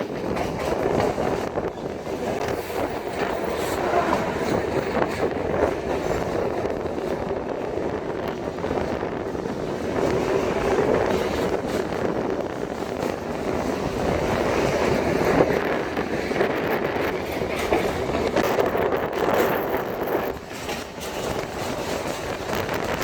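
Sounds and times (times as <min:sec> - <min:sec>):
train rumbling and rattling: 0:00.0 - 0:23.0.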